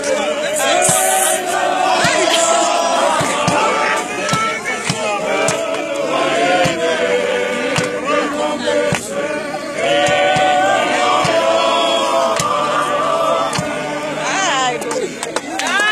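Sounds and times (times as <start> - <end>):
choir singing a hymn: 0.0 - 15.2.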